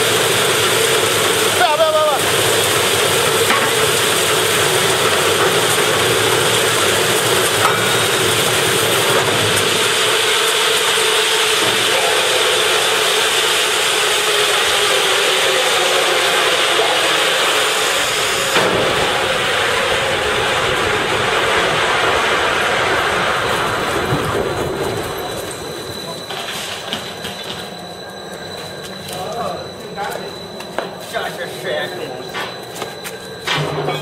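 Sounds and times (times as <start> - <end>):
debarker machine running: 0.0 - 34.0.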